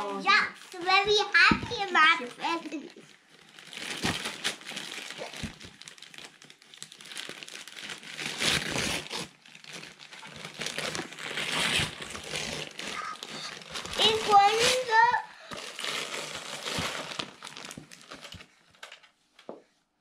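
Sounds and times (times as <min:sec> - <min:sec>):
wrapping paper crinkling and tearing: 0:00.4 - 0:19.0.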